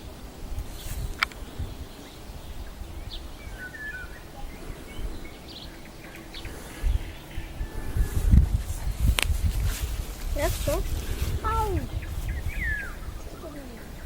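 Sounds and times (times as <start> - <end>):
birds chirping: 0.0 - 14.0
low microphone rumble: 0.0 - 14.0.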